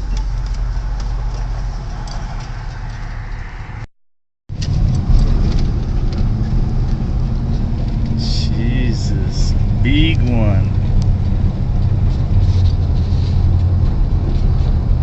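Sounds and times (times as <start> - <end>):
car engine and road noise: 0.0 - 3.9, 4.5 - 15.0.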